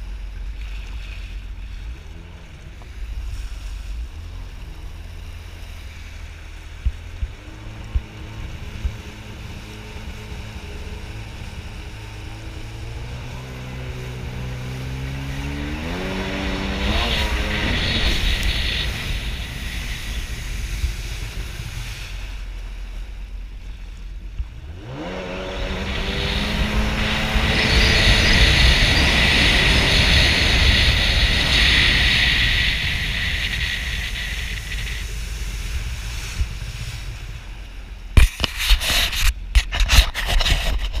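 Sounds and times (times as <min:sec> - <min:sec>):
jet ski engine revving: 0:00.0 - 0:41.0.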